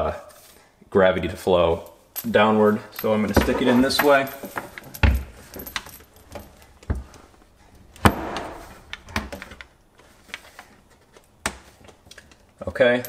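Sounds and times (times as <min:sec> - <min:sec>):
handling rustle: 0:02.2 - 0:13.0.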